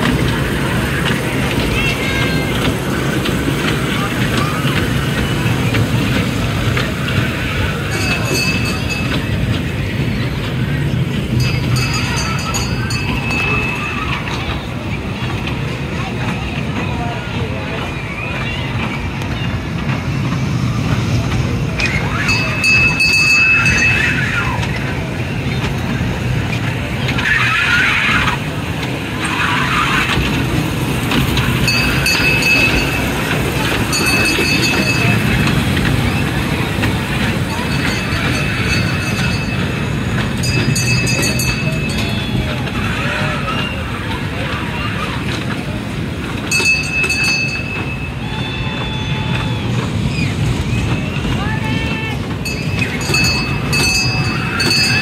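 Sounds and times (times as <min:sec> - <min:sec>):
children's voices: 0:00.0 - 0:55.0
kiddie train low rumble: 0:00.0 - 0:55.0.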